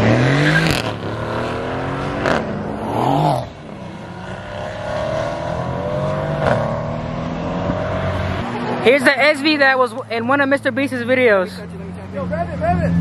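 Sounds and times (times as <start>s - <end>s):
car engine accelerating: 0.0s - 13.0s
car engine approaching: 0.0s - 13.0s.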